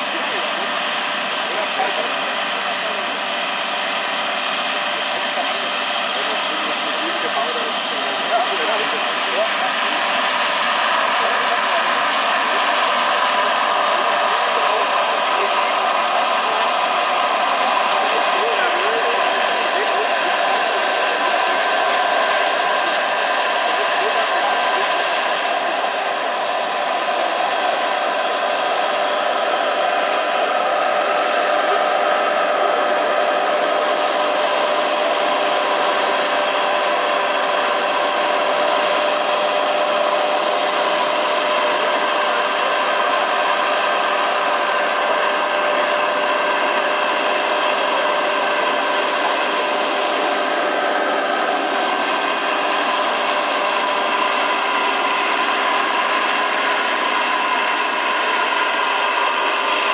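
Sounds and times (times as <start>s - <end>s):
model gas turbine engine whine: 0.0s - 59.9s.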